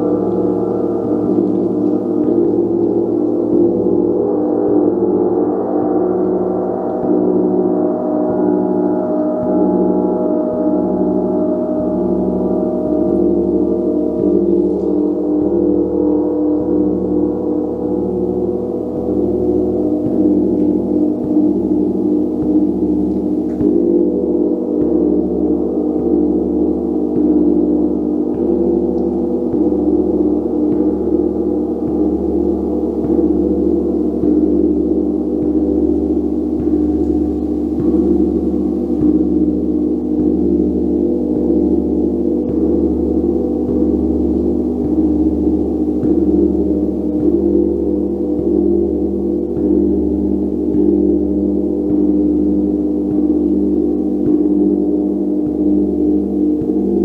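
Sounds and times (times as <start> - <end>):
gong ringing: 0.0 - 57.0.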